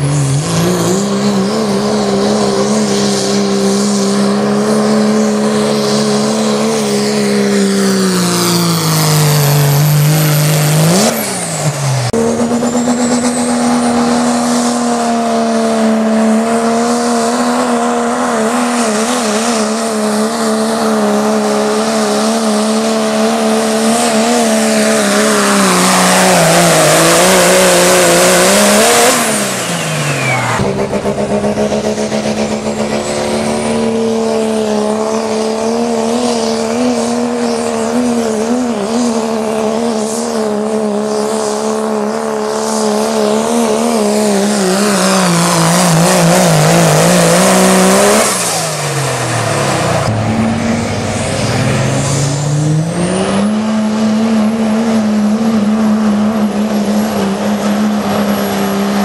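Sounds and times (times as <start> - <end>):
diesel truck engine at full throttle: 0.0 - 59.0.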